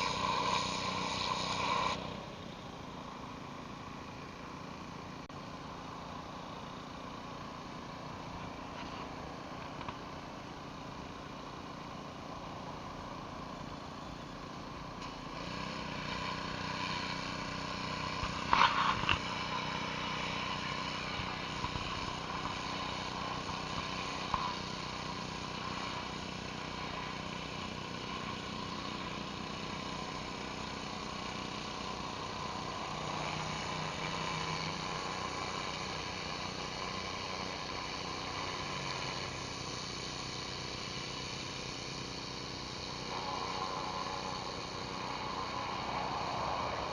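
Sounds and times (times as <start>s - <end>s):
pressure washer engine running: 0.0s - 46.9s.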